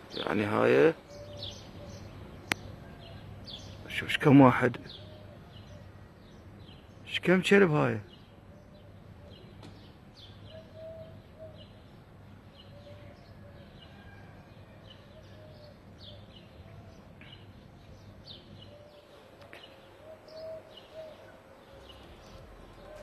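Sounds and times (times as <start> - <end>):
low background noise: 0.0 - 23.0
small birds chirping faintly: 0.0 - 23.0.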